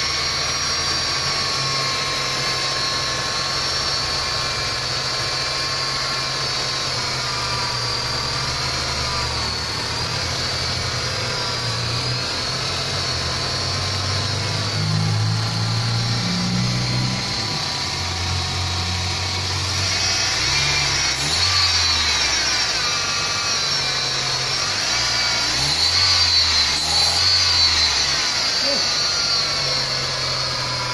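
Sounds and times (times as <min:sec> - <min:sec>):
car engine idling: 0:00.0 - 0:30.9
constant high whine: 0:00.0 - 0:30.9.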